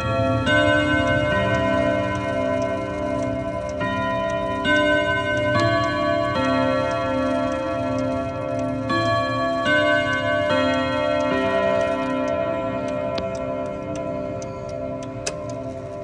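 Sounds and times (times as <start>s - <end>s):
chiming clock melody: 0.0s - 16.0s
clock ticking: 0.0s - 16.0s.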